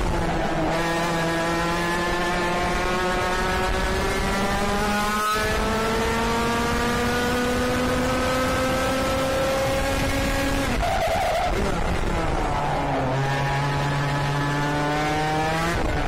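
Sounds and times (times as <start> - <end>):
kart engine revving high: 0.0 - 16.0.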